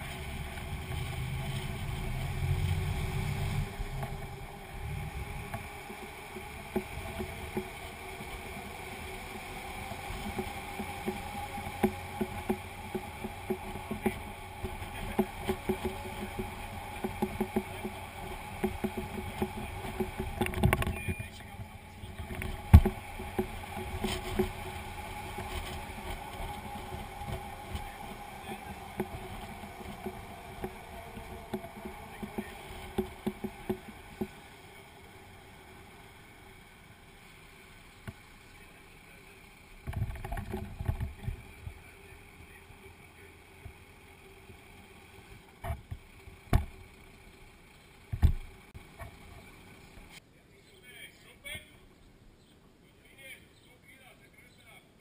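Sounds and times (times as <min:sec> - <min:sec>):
fire engine hum: 0:00.0 - 0:50.2.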